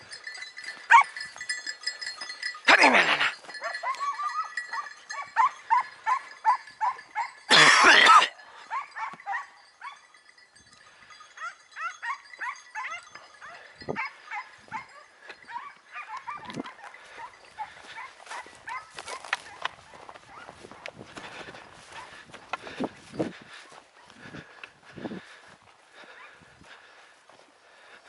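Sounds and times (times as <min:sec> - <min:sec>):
hounds yelping: 0:00.0 - 0:28.0.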